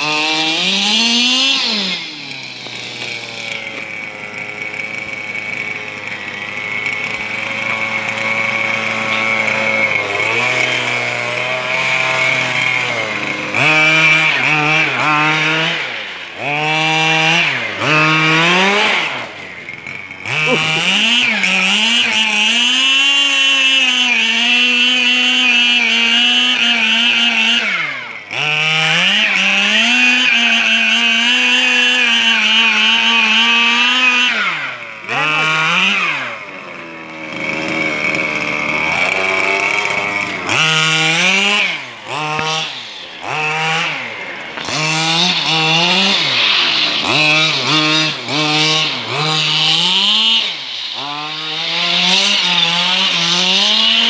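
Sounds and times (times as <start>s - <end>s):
small two-stroke engine revving: 0.0s - 54.0s.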